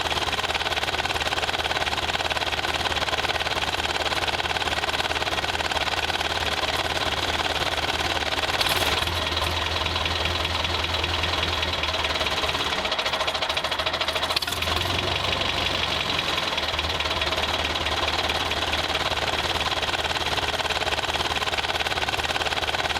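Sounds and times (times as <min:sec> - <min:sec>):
vehicle engine knocking: 0:00.0 - 0:22.9.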